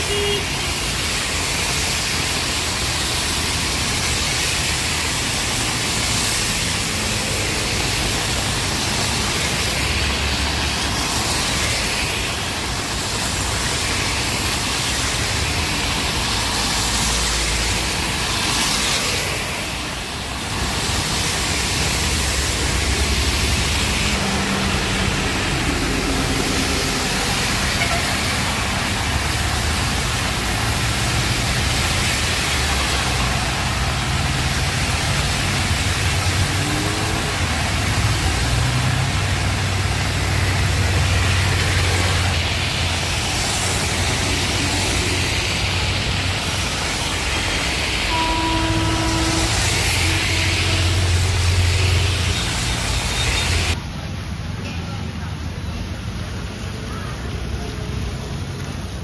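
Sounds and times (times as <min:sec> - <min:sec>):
heavy rain hissing: 0:00.0 - 0:54.2
vehicle engines rumbling: 0:00.0 - 0:59.0.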